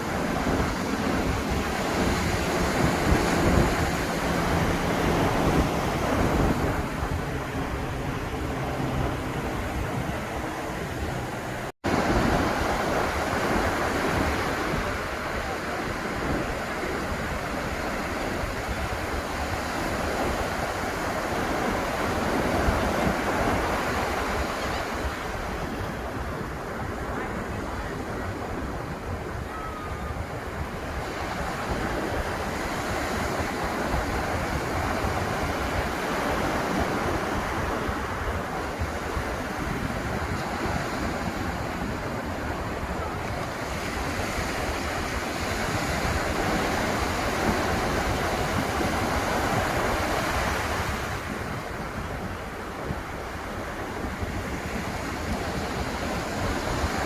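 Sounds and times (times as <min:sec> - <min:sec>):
surf breaking on a beach: 0:00.0 - 0:57.0.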